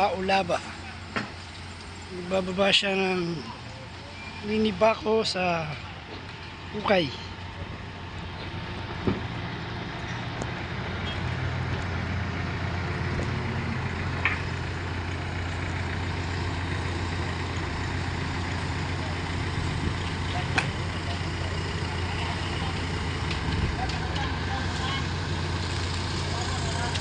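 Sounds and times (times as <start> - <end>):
crane engine droning: 0.0 - 27.0.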